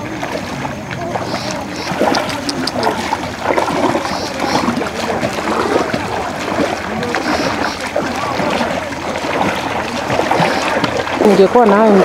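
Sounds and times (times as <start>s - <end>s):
feet sloshing through water: 0.0s - 12.0s.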